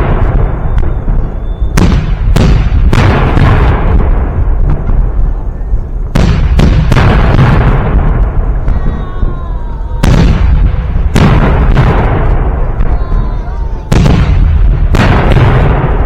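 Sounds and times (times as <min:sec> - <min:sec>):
fireworks shell bursts booming: 0:00.0 - 0:16.0
low rumble of echoing explosions: 0:00.0 - 0:16.0.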